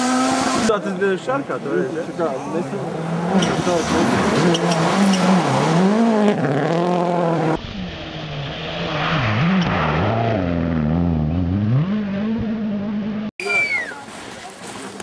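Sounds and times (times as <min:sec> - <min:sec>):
rally car engine revving: 0:00.0 - 0:00.8, 0:01.9 - 0:13.3.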